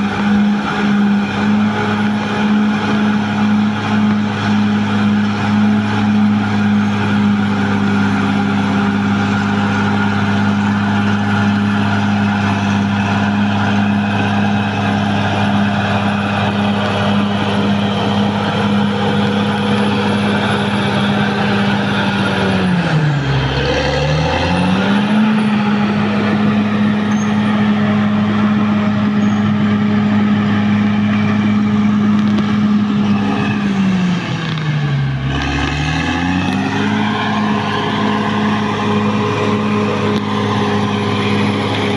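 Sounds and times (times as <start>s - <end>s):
bulldozer diesel engine: 0.0s - 41.9s.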